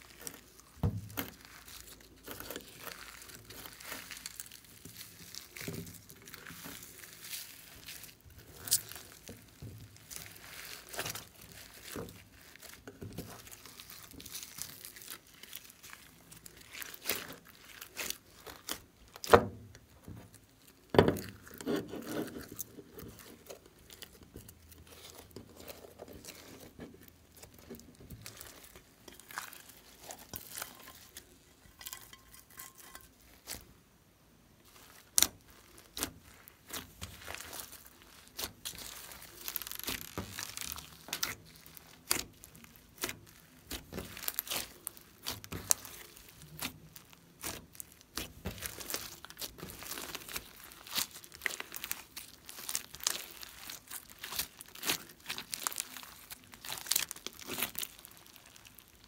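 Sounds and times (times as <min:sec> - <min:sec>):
slime squelching and popping: 0:00.0 - 0:33.6, 0:34.6 - 0:59.0.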